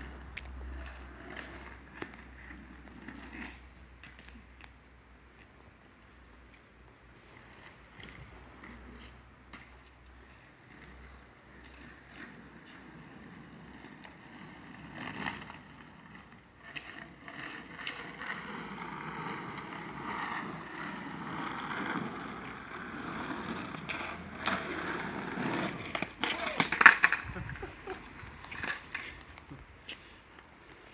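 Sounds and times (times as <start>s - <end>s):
skateboard wheels rolling on asphalt: 0.0s - 30.9s.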